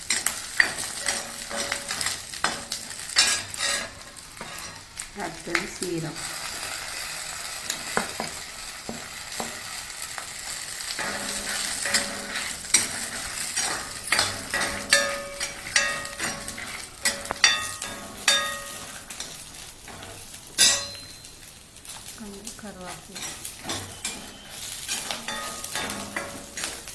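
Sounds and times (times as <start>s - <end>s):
steel spoon scraping a pan: 0.0s - 22.1s, 22.8s - 26.9s
food sizzling in oil: 0.0s - 26.9s.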